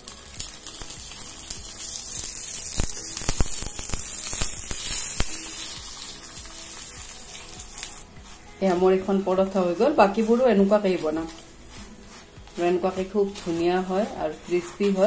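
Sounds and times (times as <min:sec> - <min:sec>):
flatbread sizzling in ghee: 0:00.0 - 0:15.0.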